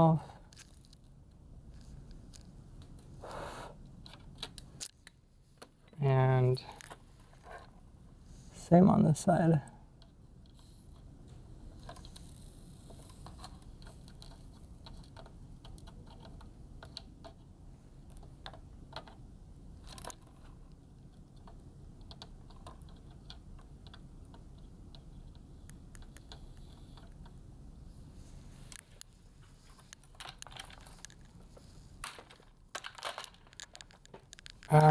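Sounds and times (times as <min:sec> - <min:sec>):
low background hum: 0:00.0 - 0:34.9.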